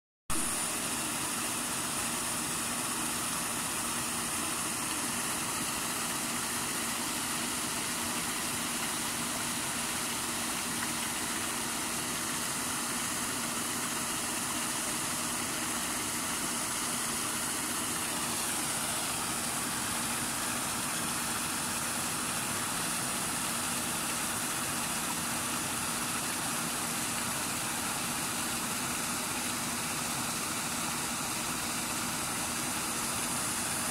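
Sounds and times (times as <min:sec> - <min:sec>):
aerator motor hum: 0:00.3 - 0:33.9.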